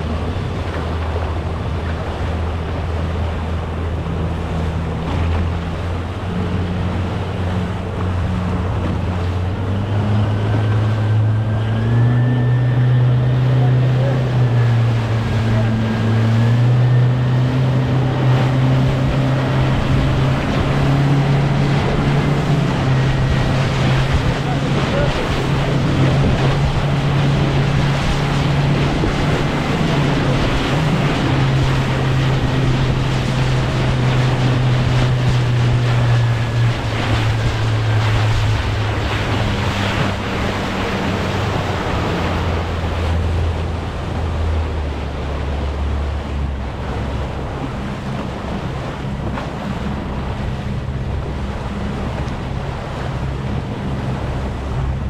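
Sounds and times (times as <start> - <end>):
boat engine running: 0.0 - 55.0
water rushing: 0.0 - 55.0
wind on the microphone: 0.0 - 55.0.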